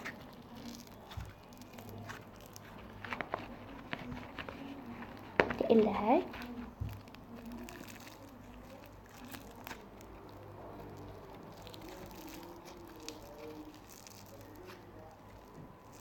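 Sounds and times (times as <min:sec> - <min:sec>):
slime squishing: 0:00.0 - 0:16.0.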